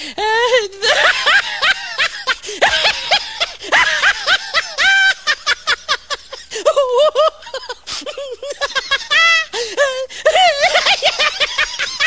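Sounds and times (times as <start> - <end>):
high-pitched laughter: 0.8 - 12.0.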